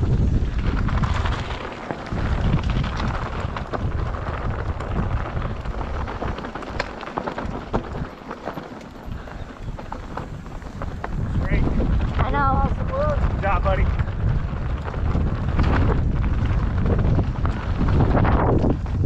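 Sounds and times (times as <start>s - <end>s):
bike tyre noise on dirt: 0.0s - 19.0s
sharp clicks and rattles: 0.0s - 19.0s
wind buffeting microphone: 0.0s - 19.0s.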